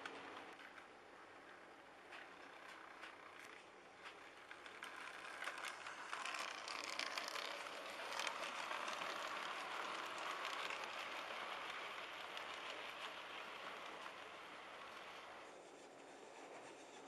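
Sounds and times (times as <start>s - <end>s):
wheels clicking over rail joints: 0.0s - 15.5s
model train motor whirr: 1.4s - 16.8s.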